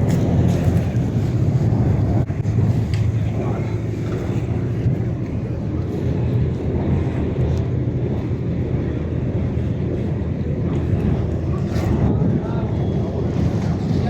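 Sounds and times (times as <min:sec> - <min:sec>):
ferry engine low rumble: 0:00.0 - 0:14.0.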